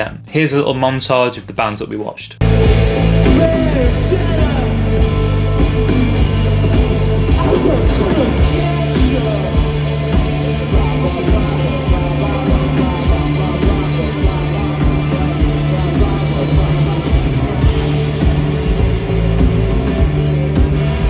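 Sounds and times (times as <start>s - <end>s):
drums hitting: 2.4s - 21.0s
rock band playing live: 2.4s - 21.0s.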